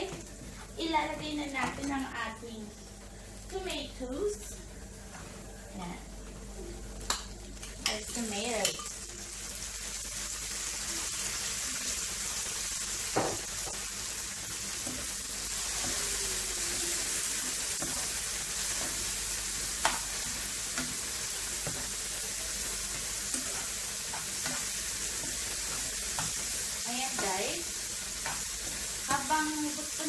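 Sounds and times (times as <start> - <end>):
vegetables sizzling in a frying pan: 0.0 - 5.2, 6.5 - 30.0.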